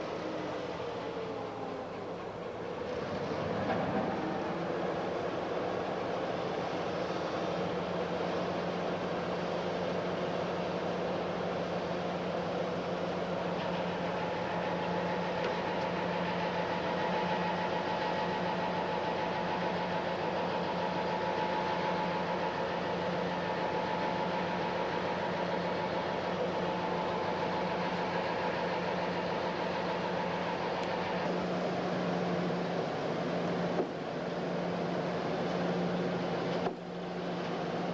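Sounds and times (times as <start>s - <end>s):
diesel locomotive idling: 0.0s - 37.9s.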